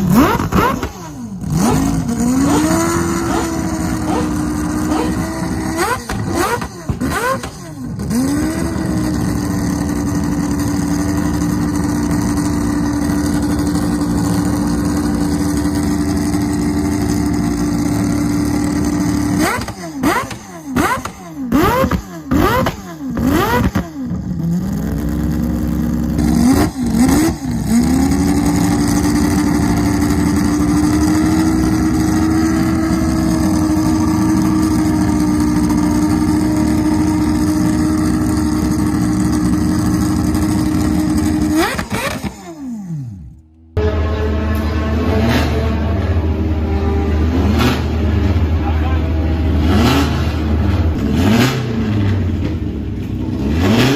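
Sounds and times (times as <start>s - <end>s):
rotary racing engine revving: 0.0s - 53.9s.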